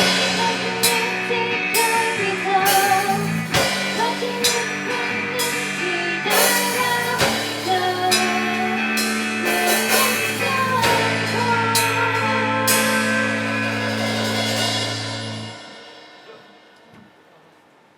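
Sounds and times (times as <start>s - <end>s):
cymbal crashes: 0.0s - 2.0s, 2.7s - 16.8s
song with singing and drums: 0.0s - 15.5s.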